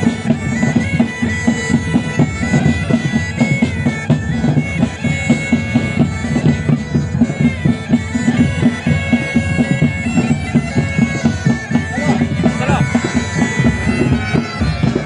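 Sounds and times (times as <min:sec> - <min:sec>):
bagpipes playing melody: 0:00.0 - 0:15.0
drum beating march rhythm: 0:00.0 - 0:15.0.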